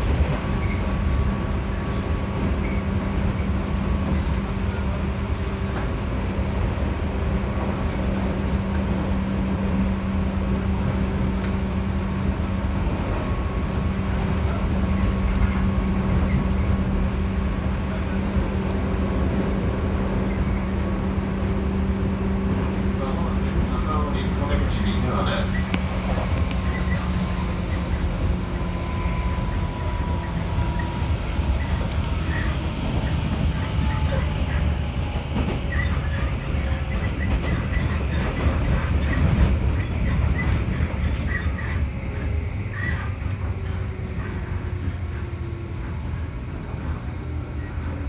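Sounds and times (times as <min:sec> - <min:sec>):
train interior rumble: 0:00.0 - 0:48.0.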